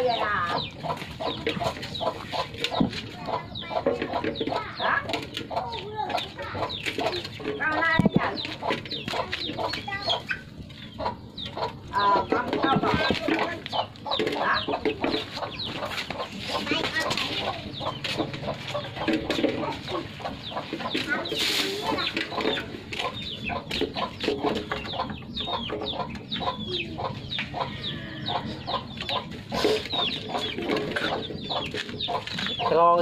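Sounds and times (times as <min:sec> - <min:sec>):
chicken clucking: 0:00.0 - 0:33.0.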